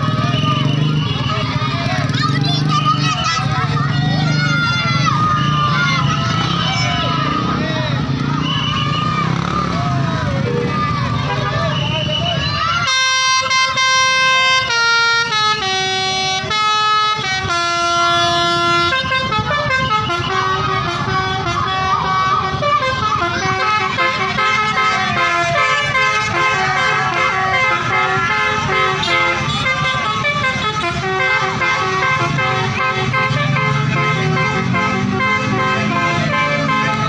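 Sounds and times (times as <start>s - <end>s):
multi-tone musical bus horn: 0.0s - 7.6s, 10.3s - 37.0s
bus engine running: 0.0s - 37.0s.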